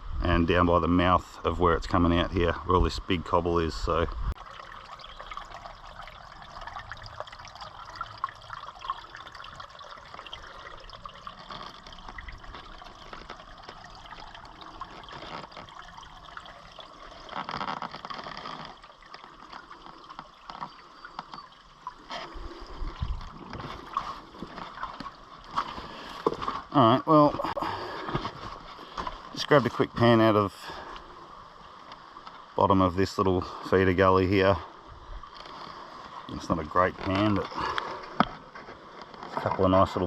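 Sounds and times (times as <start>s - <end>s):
creek water rushing: 3.5s - 40.0s.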